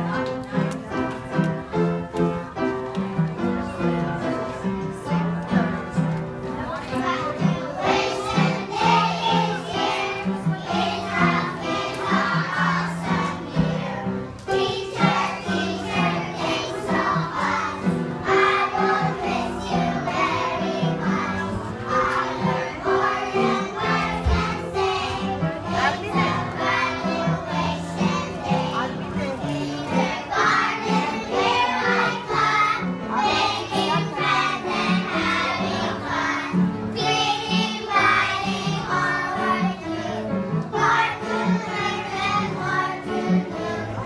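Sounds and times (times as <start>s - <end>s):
instrumental music: 0.0s - 44.0s
children singing together: 6.8s - 44.0s.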